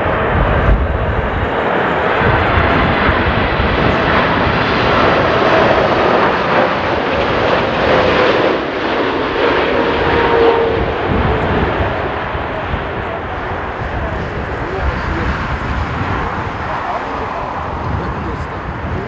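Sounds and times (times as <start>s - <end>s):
jet engine roar with whine: 0.0s - 19.0s.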